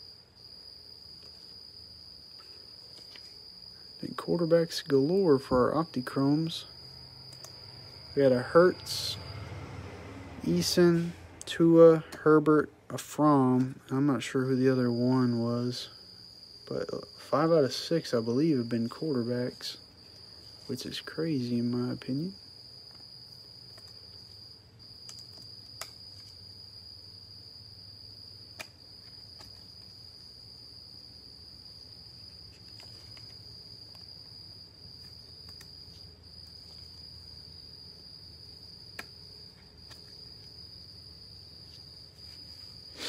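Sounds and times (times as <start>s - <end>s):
cricket chirping trill: 0.0s - 43.0s.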